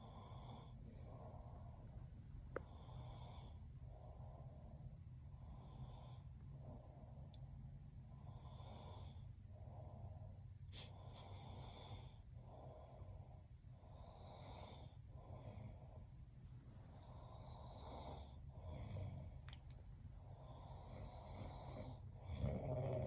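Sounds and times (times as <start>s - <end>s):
man snoring softly: 0.0s - 1.8s, 2.6s - 6.8s, 8.1s - 16.0s, 16.9s - 19.5s, 20.2s - 23.0s.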